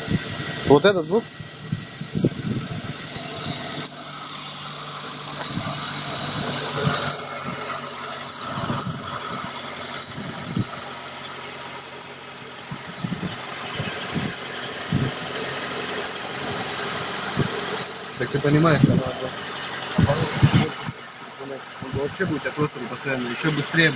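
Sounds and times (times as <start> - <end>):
car engine idling: 0.0 - 23.9
drive-belt roller squeaking: 0.0 - 23.9.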